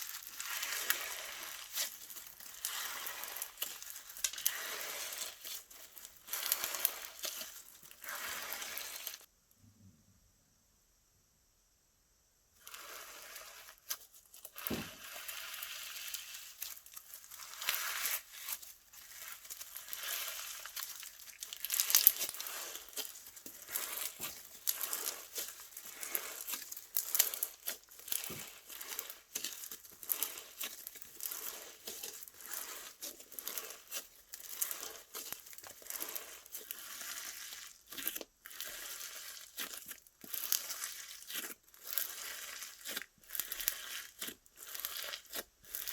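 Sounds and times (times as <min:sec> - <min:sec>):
slime crackling and squelching: 0:00.0 - 0:09.3, 0:12.6 - 0:45.9.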